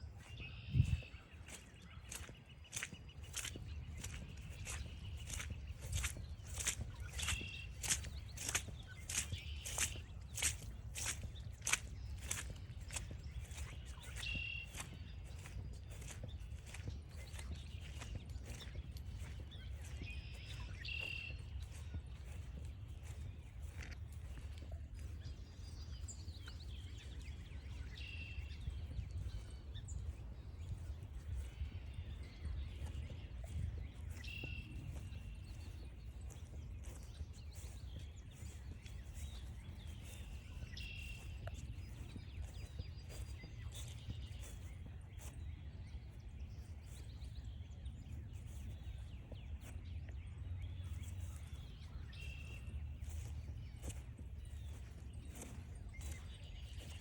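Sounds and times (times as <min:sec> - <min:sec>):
footsteps crunching on trail: 0:00.0 - 0:57.0
small birds chirping: 0:00.0 - 0:57.0.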